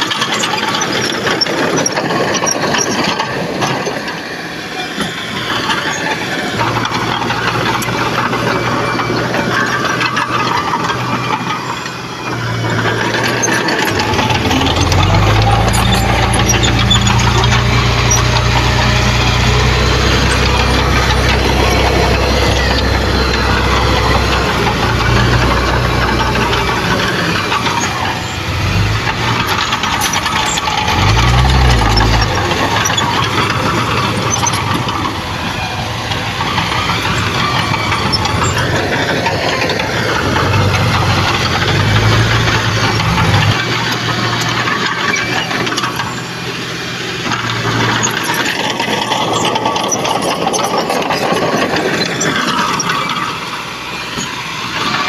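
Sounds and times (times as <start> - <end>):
bulldozer diesel engine: 0.0 - 55.0
steel tracks clattering and squealing: 0.0 - 55.0.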